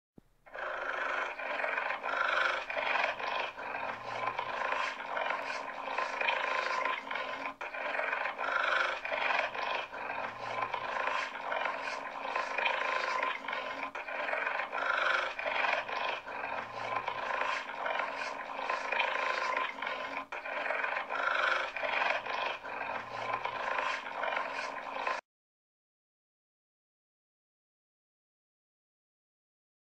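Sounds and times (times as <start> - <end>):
cheetah calling: 0.5 - 25.2.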